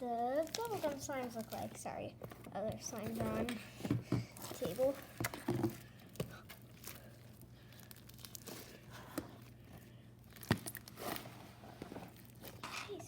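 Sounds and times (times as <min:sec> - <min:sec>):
faint rustling and handling: 0:00.0 - 0:13.0
steady low hum: 0:00.0 - 0:13.0.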